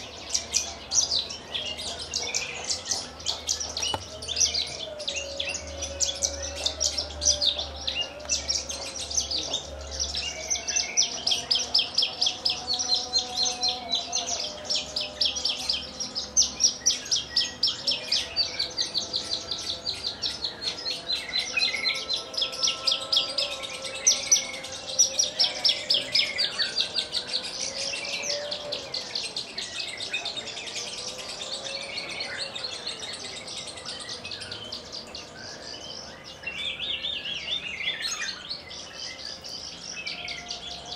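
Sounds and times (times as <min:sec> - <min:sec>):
bush lark singing: 0:00.0 - 0:40.9.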